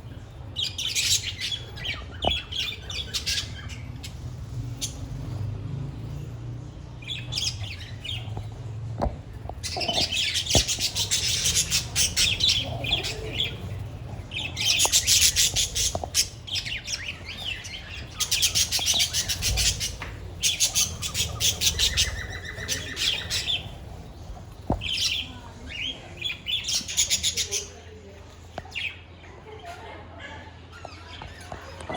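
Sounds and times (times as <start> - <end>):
budgerigars chirping and squawking: 0.0 - 28.0.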